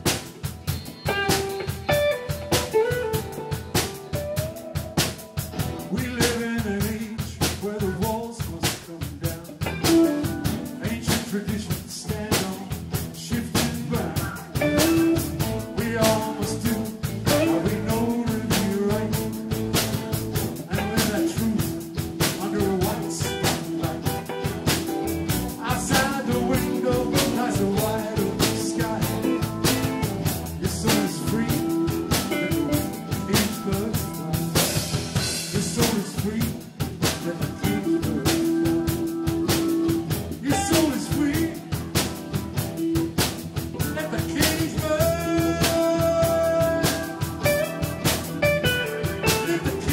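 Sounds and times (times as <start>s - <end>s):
electric guitar line: 0.0s - 7.1s, 9.3s - 49.9s
drum kit beat: 0.0s - 49.9s.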